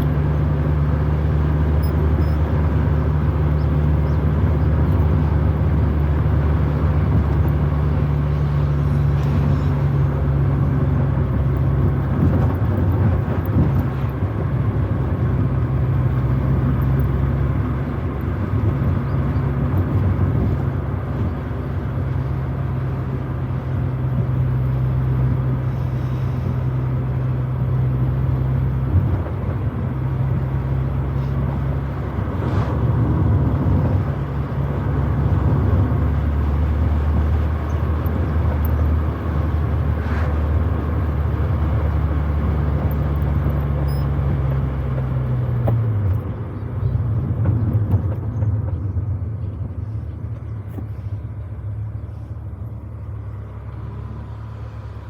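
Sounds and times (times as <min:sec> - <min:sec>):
car engine running while driving: 0:00.0 - 0:55.0.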